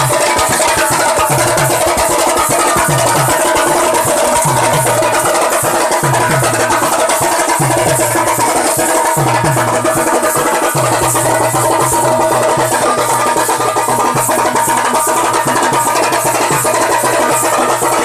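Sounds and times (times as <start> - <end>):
folk band playing dance music: 0.0 - 18.0
sharp drum strokes: 0.0 - 18.0.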